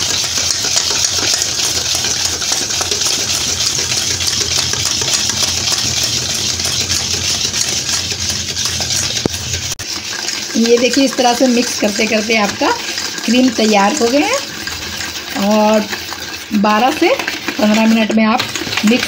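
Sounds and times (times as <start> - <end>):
whisk scraping metal bowl: 0.0 - 19.0.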